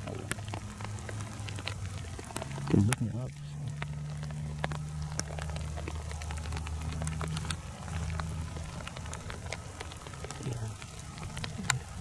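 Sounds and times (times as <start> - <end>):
low steady hum: 0.0 - 12.0
raindrops ticking on gear: 0.0 - 12.0.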